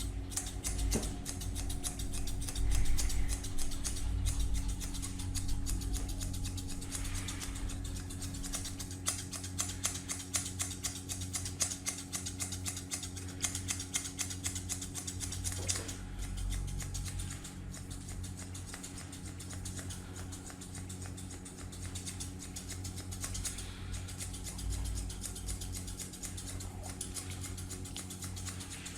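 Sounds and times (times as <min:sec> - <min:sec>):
grooming scissors snipping fur: 0:00.0 - 0:28.9
steady low hum: 0:00.0 - 0:28.9.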